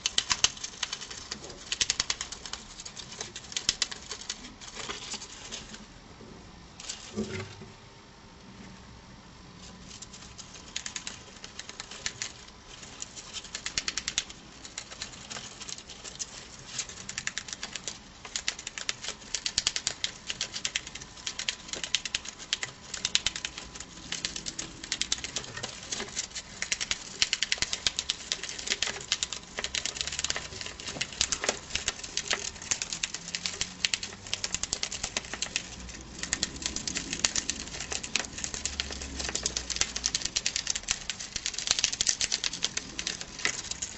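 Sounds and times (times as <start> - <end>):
gerbils gnawing paper: 0.0 - 5.9, 9.6 - 43.9.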